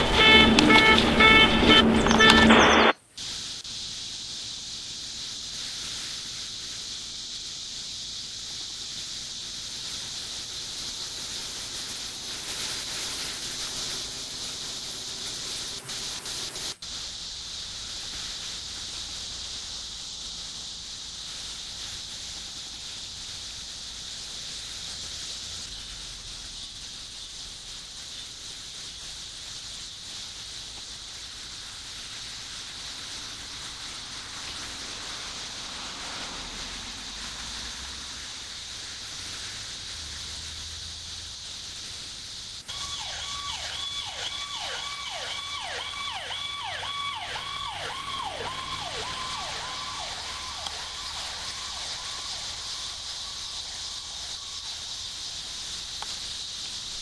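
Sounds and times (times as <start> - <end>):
high-pitched hiss: 0.0 - 57.0.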